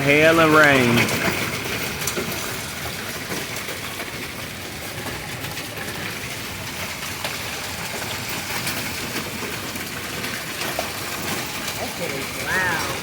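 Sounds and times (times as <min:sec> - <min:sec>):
hailstones ticking: 0:00.0 - 0:13.0
rain hissing: 0:00.0 - 0:13.0.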